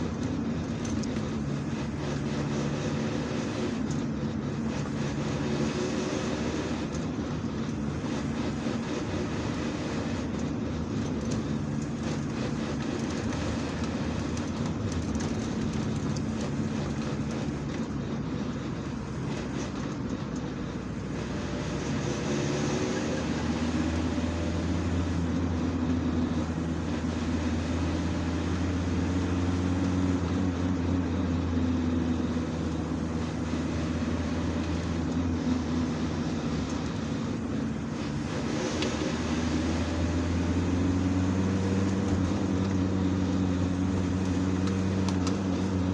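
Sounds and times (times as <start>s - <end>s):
diesel engine running: 0.0s - 45.9s
van gearbox whining under load: 0.0s - 45.9s.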